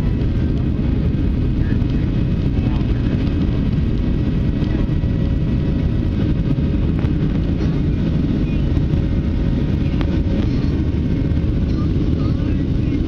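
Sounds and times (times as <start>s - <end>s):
rushing air: 0.0s - 12.9s
jet engines rumbling: 0.0s - 13.0s.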